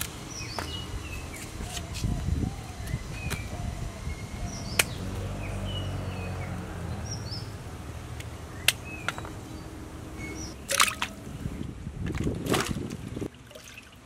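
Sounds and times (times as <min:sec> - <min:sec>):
birds chirping: 0:00.0 - 0:11.7.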